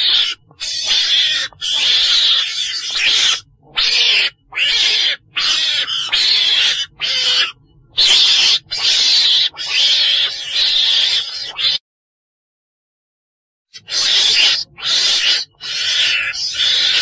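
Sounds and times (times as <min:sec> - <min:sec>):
animal hissing squeals: 0:00.0 - 0:11.8, 0:13.8 - 0:17.0.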